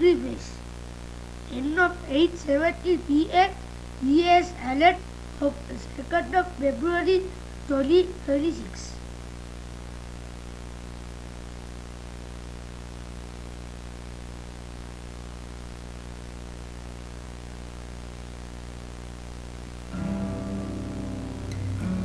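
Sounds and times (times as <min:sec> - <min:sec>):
low electrical hum: 0:00.0 - 0:22.0
static hiss: 0:00.0 - 0:22.0.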